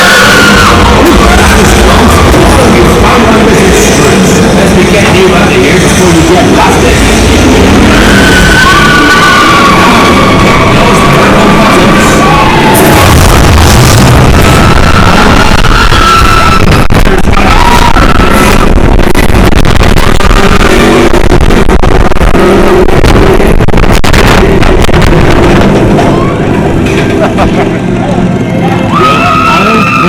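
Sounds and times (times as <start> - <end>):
loud music: 0.0 - 27.3
roller coaster rushing on track: 0.0 - 30.0.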